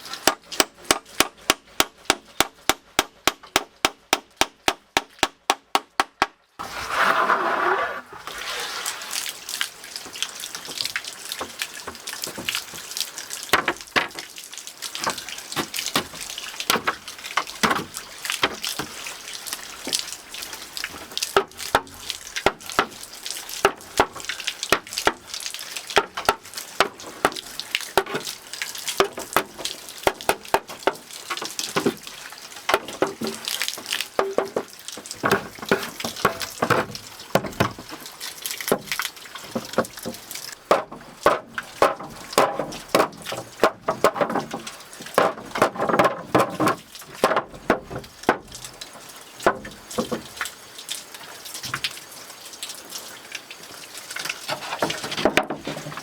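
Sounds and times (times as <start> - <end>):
water drips and splashes: 0.0 - 5.4, 8.1 - 56.0
running water: 6.6 - 56.0.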